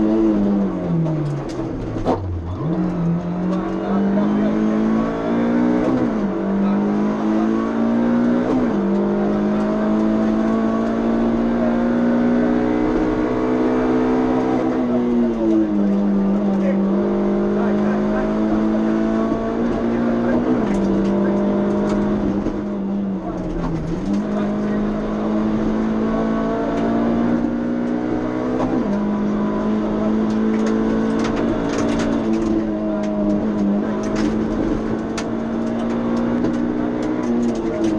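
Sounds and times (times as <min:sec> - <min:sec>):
car engine accelerating hard: 0:00.0 - 0:37.9.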